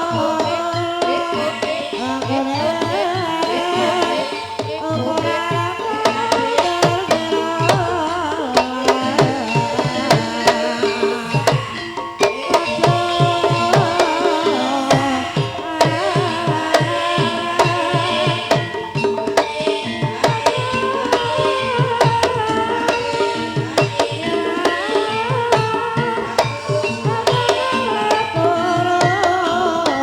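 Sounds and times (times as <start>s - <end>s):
hand drum strokes: 0.0s - 30.0s
person singing: 0.0s - 30.0s.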